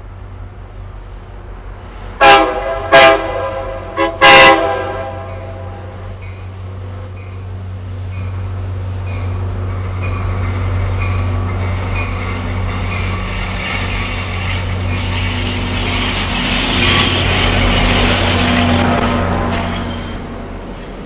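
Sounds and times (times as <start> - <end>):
diesel locomotive passing: 0.0 - 21.0
train wheel noise: 0.0 - 21.0.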